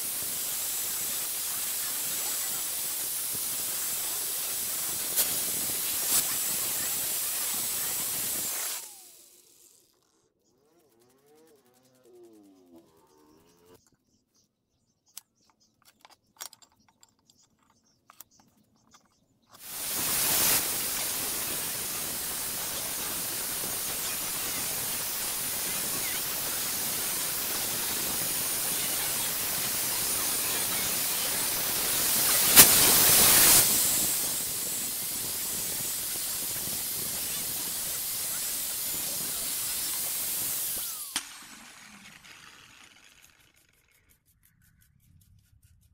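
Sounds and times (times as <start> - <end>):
angle grinder grinding steel: 0.0 - 13.8, 19.6 - 43.7.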